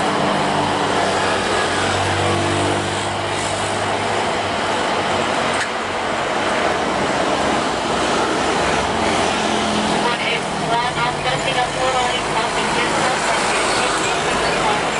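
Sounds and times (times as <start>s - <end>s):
road traffic roar: 0.0s - 14.9s.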